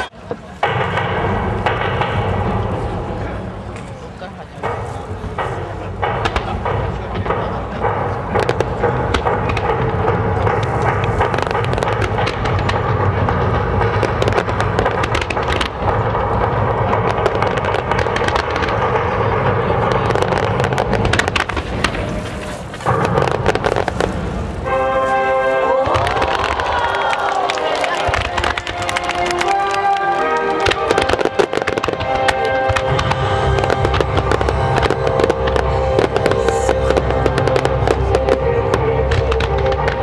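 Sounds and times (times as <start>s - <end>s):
fireworks bursting and crackling: 0.0s - 40.0s
music: 4.6s - 21.8s, 22.8s - 40.0s.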